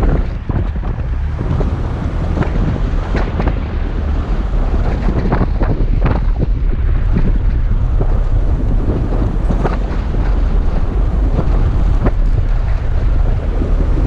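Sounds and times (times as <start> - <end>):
vehicle driving through sand: 0.0 - 14.0
wind buffeting microphone: 0.0 - 14.0.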